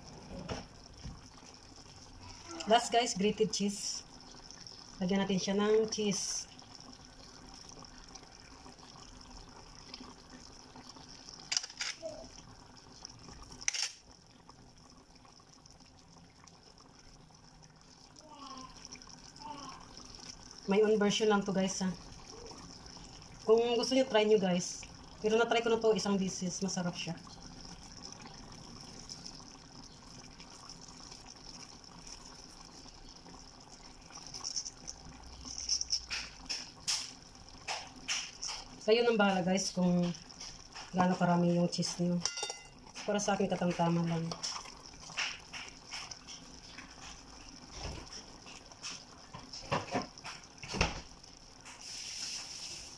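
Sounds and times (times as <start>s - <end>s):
stew simmering: 0.0s - 52.9s.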